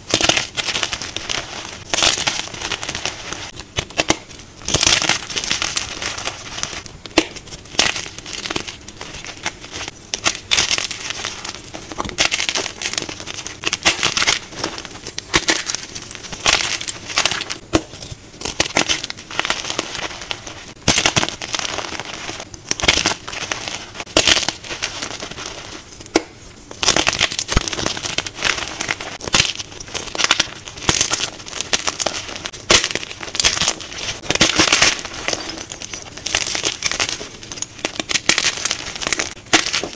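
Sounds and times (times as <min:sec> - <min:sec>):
hands crushing chalk: 0:00.0 - 0:39.9.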